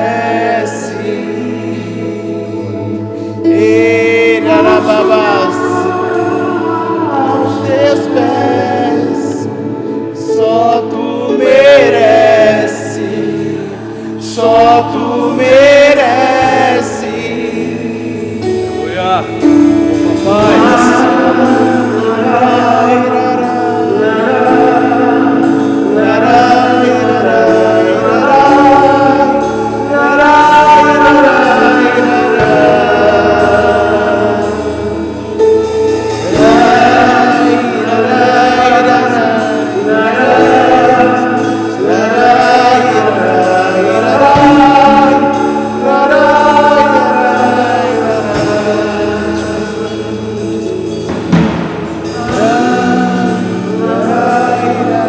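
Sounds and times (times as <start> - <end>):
held keyboard chords: 0.0 - 55.0
voices singing gospel song: 0.0 - 55.0.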